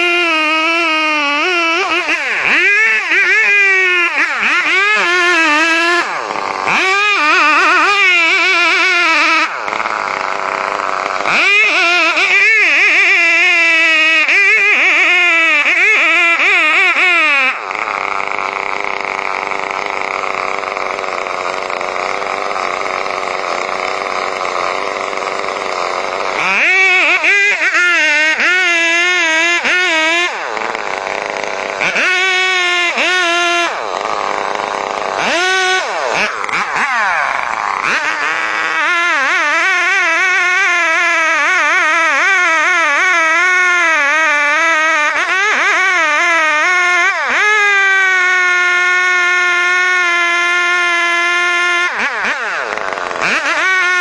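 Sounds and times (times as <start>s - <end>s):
chainsaw cutting: 0.0s - 54.0s.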